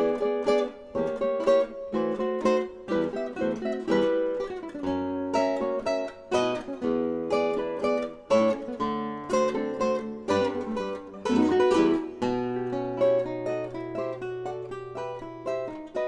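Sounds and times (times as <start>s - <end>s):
guitar picking notes and chords: 0.0s - 16.0s.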